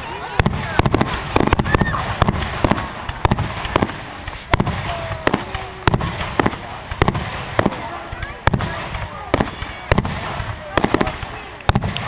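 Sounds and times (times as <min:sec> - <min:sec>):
background noise: 0:00.0 - 0:12.0
fireworks bangs: 0:00.0 - 0:12.0.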